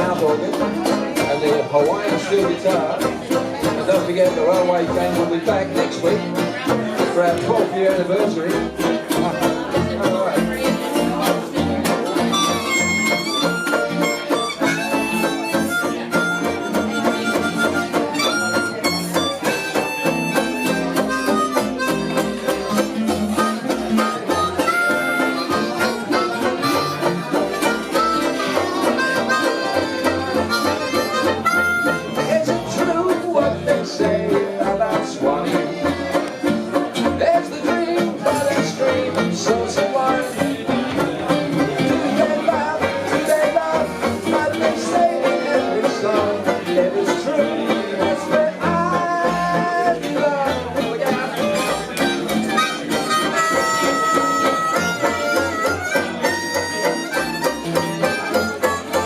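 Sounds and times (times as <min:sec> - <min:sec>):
acoustic country band playing: 0:00.0 - 0:59.0.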